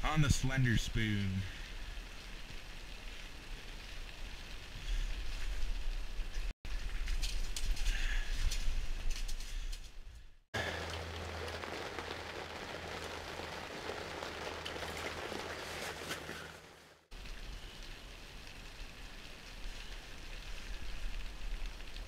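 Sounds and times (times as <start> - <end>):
rain on fabric roof: 0.0 - 9.9, 10.6 - 22.0.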